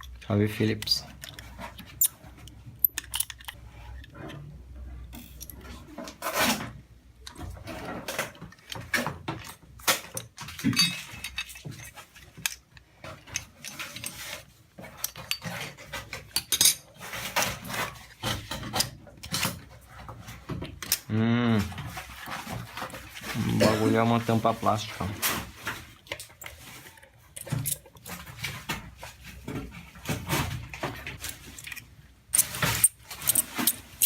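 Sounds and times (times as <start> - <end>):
small tools clicking and clinking: 0.0 - 4.4, 7.2 - 19.8, 20.4 - 21.1, 21.7 - 28.8, 31.2 - 34.0.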